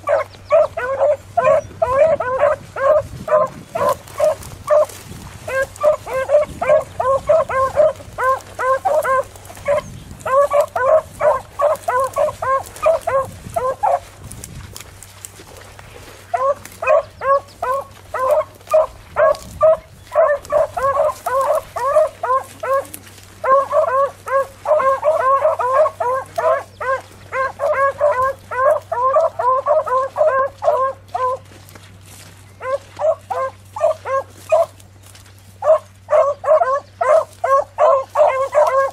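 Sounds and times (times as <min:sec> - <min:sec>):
dogs baying: 0:00.0 - 0:38.9.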